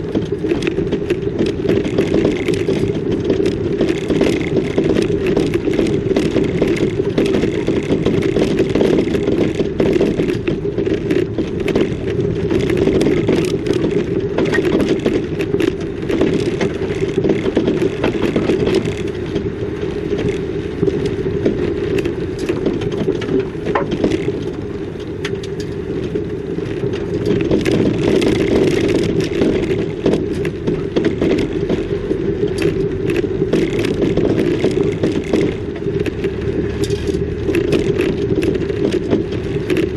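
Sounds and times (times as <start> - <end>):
rattles and crunching clicks: 0.0 - 39.9
vehicle road noise: 0.0 - 39.9.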